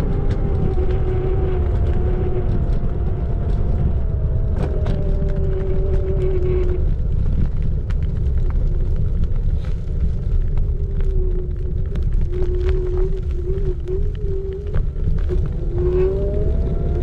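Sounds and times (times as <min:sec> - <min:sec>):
electric scooter motor whine: 0:00.0 - 0:08.2, 0:09.6 - 0:17.0
heavy low rumble: 0:00.0 - 0:17.0
small clicks and rattles: 0:00.0 - 0:17.0.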